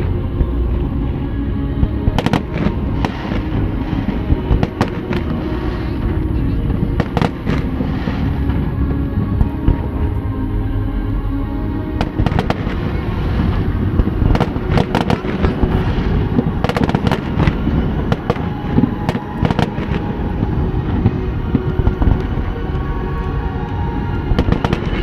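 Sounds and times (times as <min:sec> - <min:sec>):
fireworks bursting: 0:02.1 - 0:09.8, 0:12.0 - 0:25.0.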